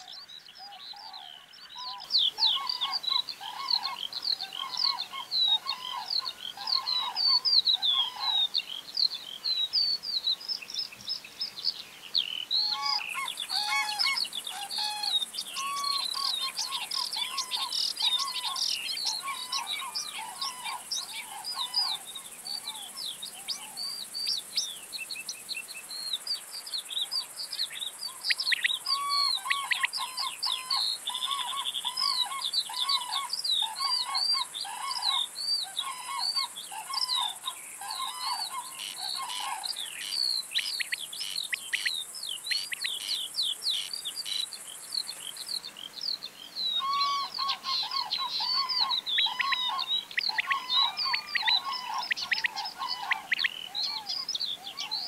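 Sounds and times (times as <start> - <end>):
lower repeated bird call: 0.0 - 11.3, 12.0 - 26.2, 26.8 - 55.0
chorus of bird calls: 0.0 - 55.0
steady high hiss: 1.5 - 55.0.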